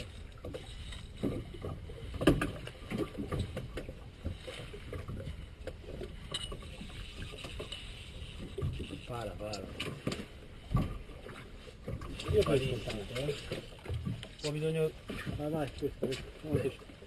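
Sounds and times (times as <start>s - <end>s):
water against boat hull: 0.0s - 17.0s
wind: 0.0s - 17.0s.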